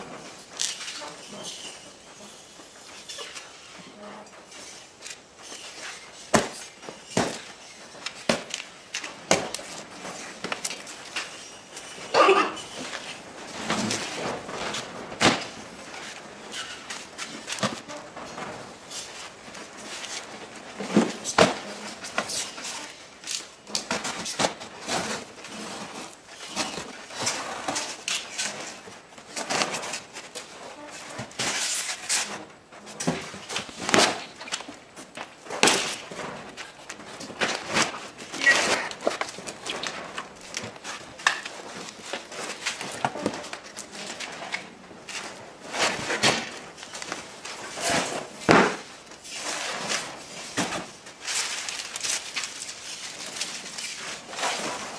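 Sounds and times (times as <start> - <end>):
cardboard rustling and scraping: 2.9 - 54.9.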